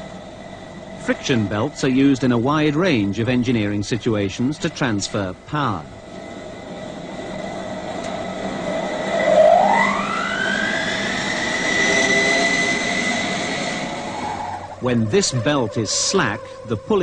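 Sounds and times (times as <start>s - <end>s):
constant hum: 0.0s - 17.0s
pulley drive whine: 0.0s - 17.0s.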